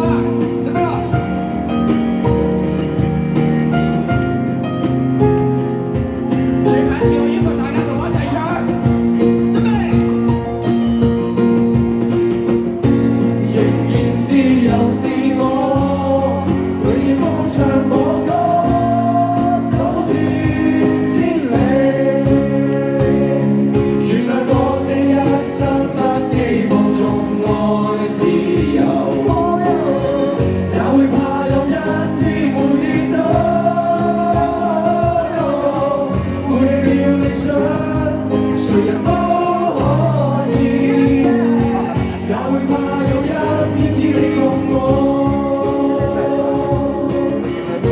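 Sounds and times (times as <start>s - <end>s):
pop band accompaniment: 0.0s - 47.9s
voices singing together: 0.0s - 47.9s.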